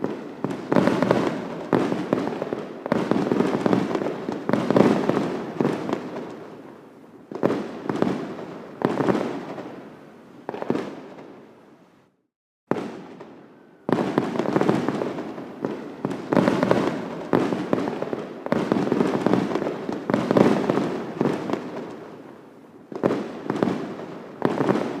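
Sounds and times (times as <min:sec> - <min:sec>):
fireworks bursting: 0:00.0 - 0:11.4, 0:12.7 - 0:25.0.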